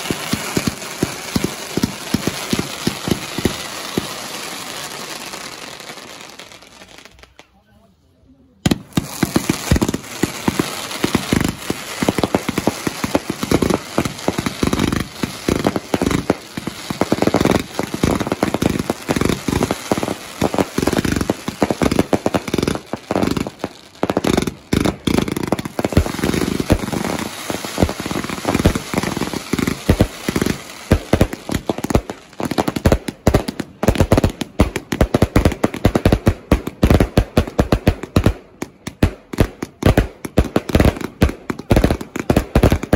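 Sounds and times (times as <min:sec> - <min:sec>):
fireworks bangs and crackles: 0:00.0 - 0:07.6, 0:08.6 - 0:42.9.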